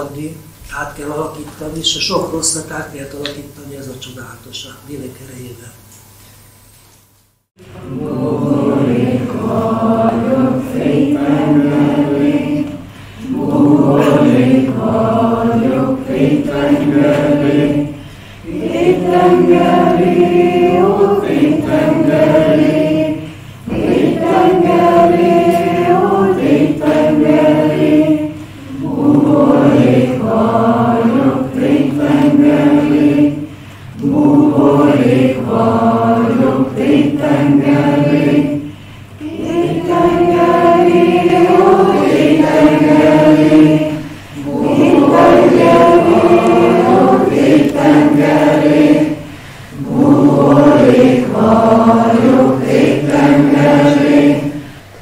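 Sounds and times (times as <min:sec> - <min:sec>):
group of people chanting: 0:07.6 - 0:54.7.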